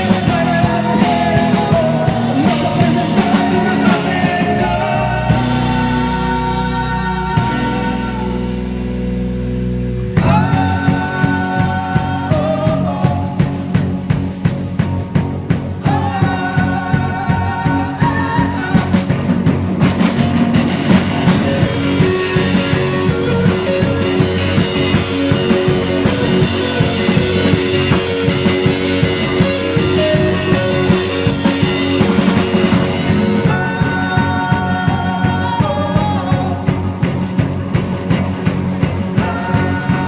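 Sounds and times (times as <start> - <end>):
drum kit beat: 0.0 - 40.0
live rock band playing: 0.0 - 40.0.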